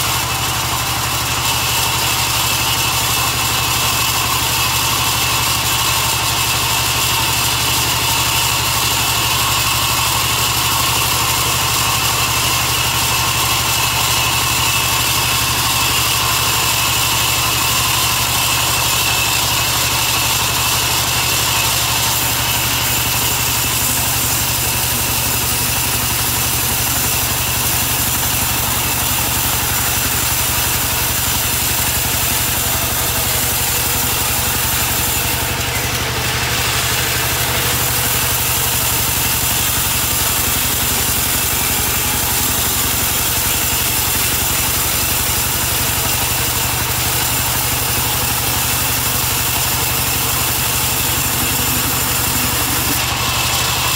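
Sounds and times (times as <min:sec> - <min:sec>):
band saw cutting timber: 0:00.0 - 0:53.9.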